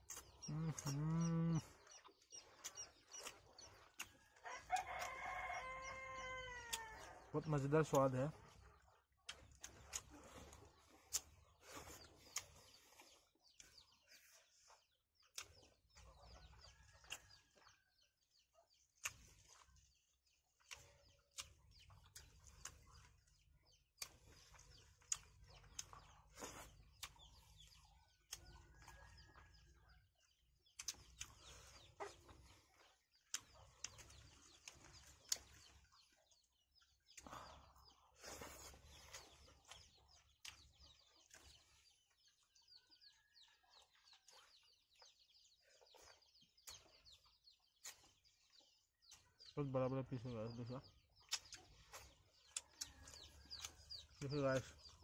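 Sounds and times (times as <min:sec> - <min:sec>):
mouth smacks and chewing: 0:00.0 - 0:05.3, 0:08.3 - 0:17.7, 0:18.3 - 0:29.6, 0:30.2 - 0:49.5, 0:51.2 - 0:55.0.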